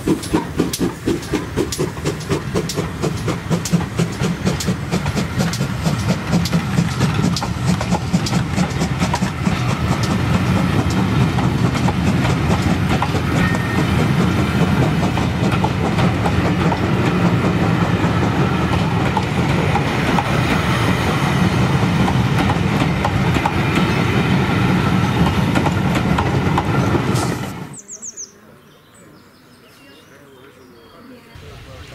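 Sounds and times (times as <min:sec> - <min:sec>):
train wheels clattering over rail joints: 0:00.0 - 0:27.6
train rumble: 0:00.0 - 0:27.9.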